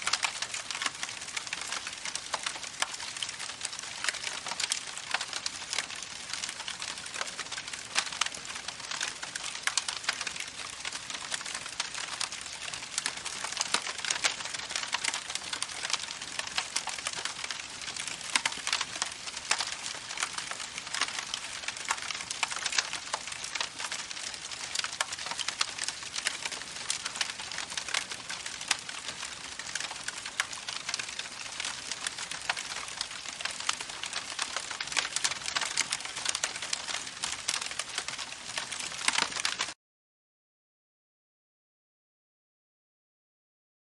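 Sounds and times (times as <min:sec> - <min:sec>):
campfire crackling: 0:00.0 - 0:39.8.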